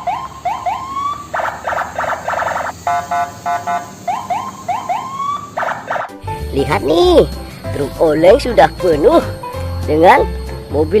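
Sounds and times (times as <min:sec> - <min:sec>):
toy truck electronic siren: 0:00.0 - 0:11.0.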